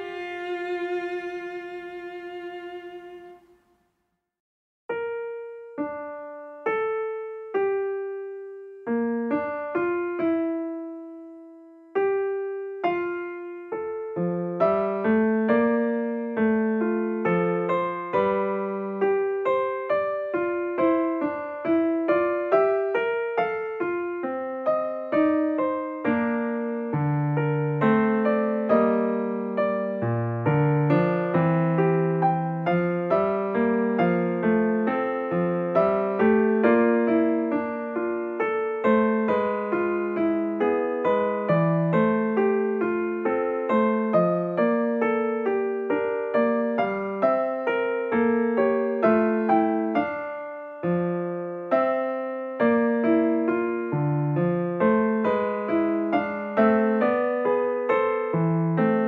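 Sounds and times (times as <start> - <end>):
slow solo keyboard melody: 4.9 - 59.0.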